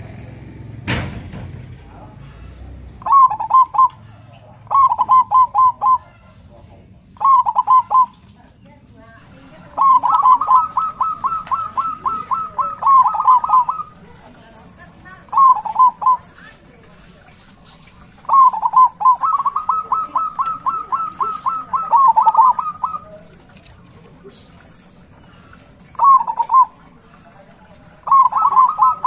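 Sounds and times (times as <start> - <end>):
dove cooing: 3.0 - 6.4, 7.1 - 8.2, 9.3 - 29.0
small birds chirping: 3.0 - 29.0.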